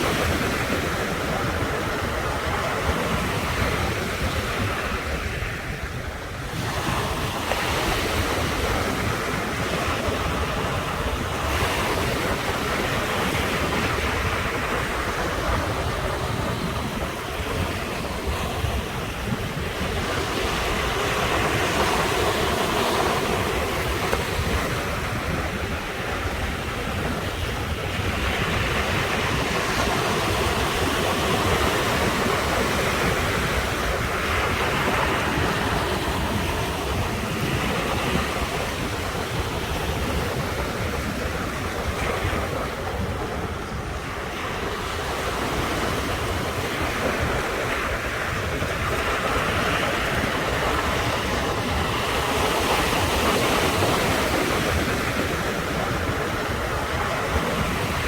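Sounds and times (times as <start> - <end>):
ocean waves breaking: 0.0 - 58.0
wind rumbling on microphone: 0.0 - 58.0.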